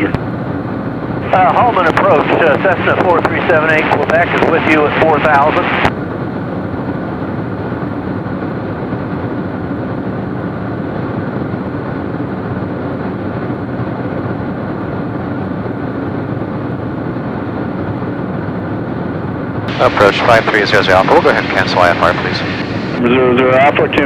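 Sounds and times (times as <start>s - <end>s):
airplane engine droning: 0.0s - 24.0s.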